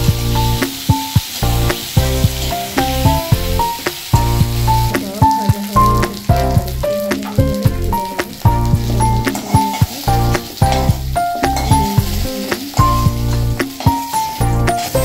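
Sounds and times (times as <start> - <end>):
instrumental background music: 0.0 - 15.0
potatoes sizzling in oil: 0.0 - 15.0.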